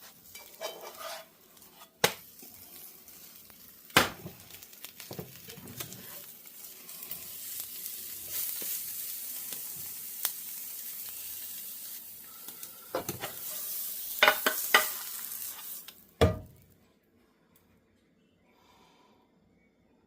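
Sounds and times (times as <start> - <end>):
egg sizzling in frying pan: 0.0 - 16.4.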